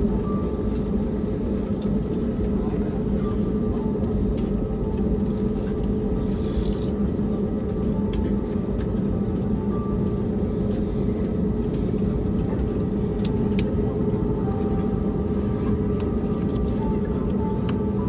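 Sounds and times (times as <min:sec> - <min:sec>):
airplane cabin rumble: 0:00.0 - 0:18.0
low hum: 0:00.0 - 0:18.0.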